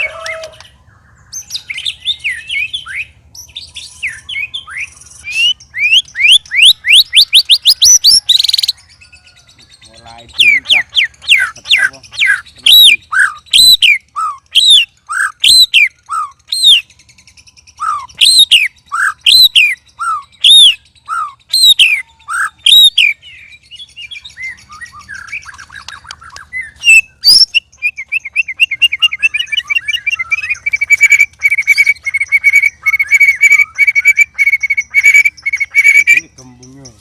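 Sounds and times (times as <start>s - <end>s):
songbird whistling and trilling: 0.0s - 37.0s.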